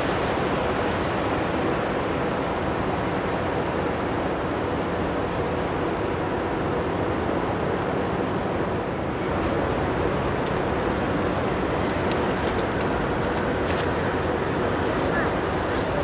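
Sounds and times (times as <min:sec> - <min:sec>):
boat wash rushing: 0:00.0 - 0:16.0
ferry engines rumbling: 0:00.0 - 0:16.0.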